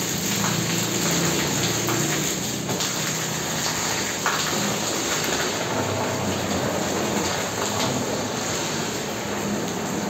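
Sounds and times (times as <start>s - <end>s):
rain pouring: 0.0s - 10.0s.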